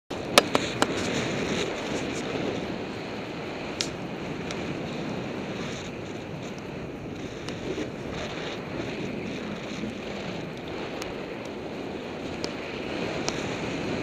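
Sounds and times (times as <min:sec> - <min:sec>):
wind rushing over microphone: 0:00.1 - 0:14.0.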